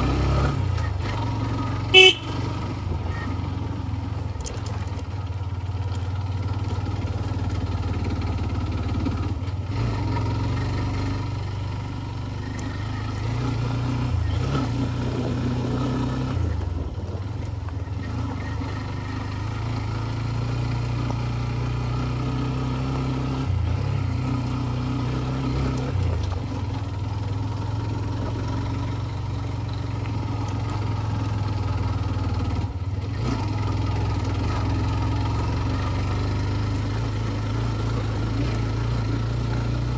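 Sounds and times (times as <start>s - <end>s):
road noise: 0.0s - 39.9s
scooter engine running: 0.0s - 39.9s.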